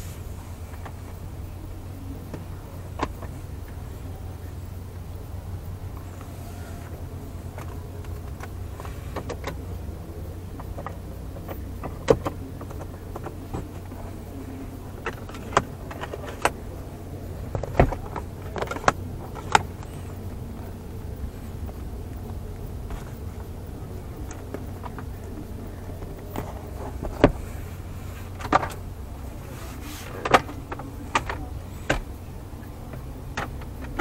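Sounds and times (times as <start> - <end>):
low cabin hum: 0.0 - 34.0.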